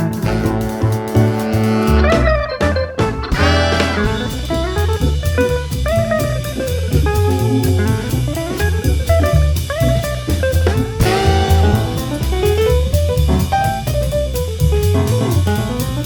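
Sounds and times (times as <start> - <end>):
drum kit beat: 0.0 - 16.0
guitar: 0.0 - 16.0
upbeat jazzy band music: 0.0 - 16.0.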